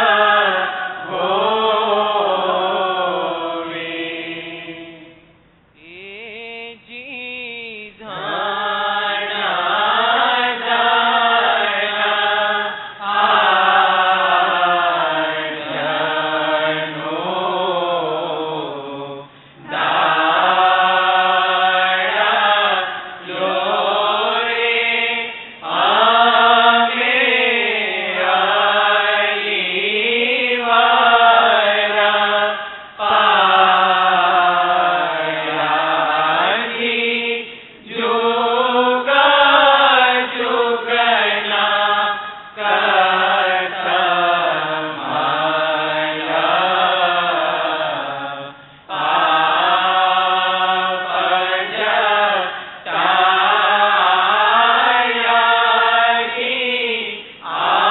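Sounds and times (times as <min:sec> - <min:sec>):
person chanting a prayer: 0:05.8 - 0:57.9.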